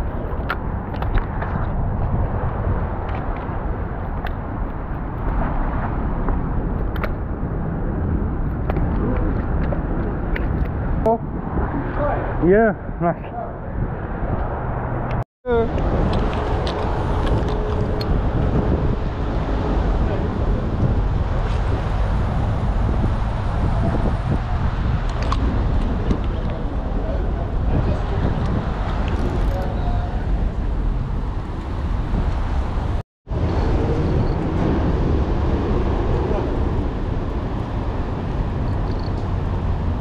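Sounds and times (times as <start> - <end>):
road traffic: 0.0 - 40.0
wind on microphone: 0.0 - 40.0.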